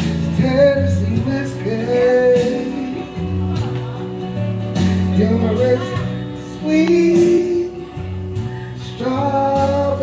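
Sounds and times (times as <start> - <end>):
man singing into a microphone: 0.0 - 4.2, 4.8 - 10.0
backing track with bass line: 0.0 - 10.0.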